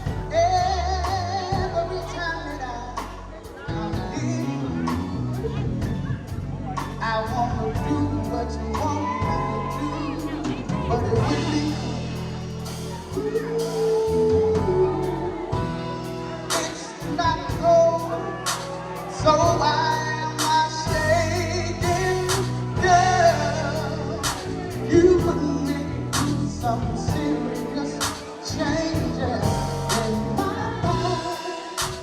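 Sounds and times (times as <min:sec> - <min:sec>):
person singing: 0:00.0 - 0:32.0
rnb backing track: 0:00.0 - 0:32.0.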